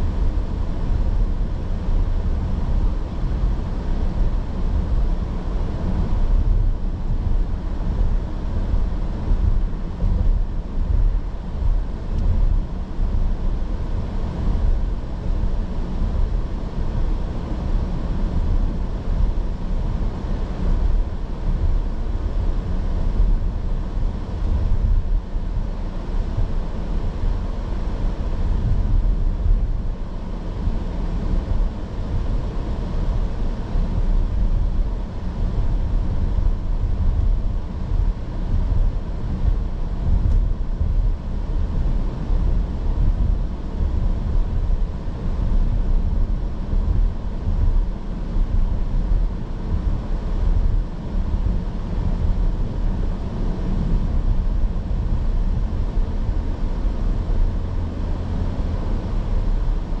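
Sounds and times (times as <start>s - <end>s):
road and engine rumble: 0.0s - 60.0s
wind noise: 0.0s - 60.0s.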